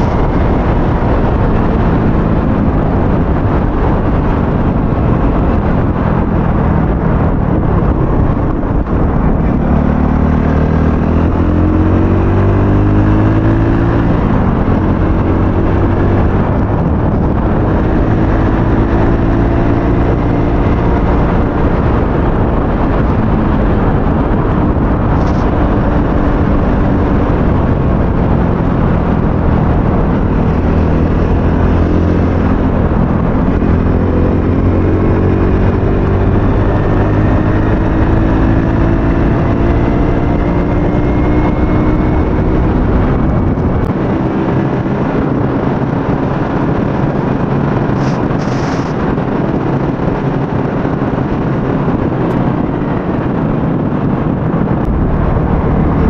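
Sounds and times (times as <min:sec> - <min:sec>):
wind noise: 0:00.0 - 0:56.0.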